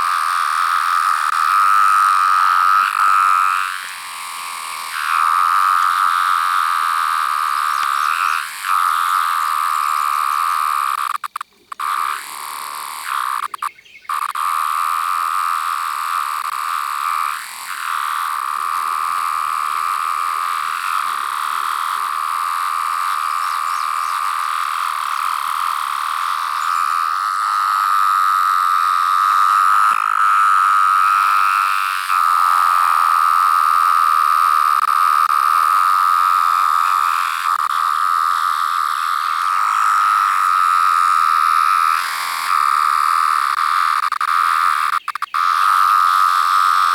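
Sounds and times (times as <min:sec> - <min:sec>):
cicada calling: 0:00.0 - 0:46.9.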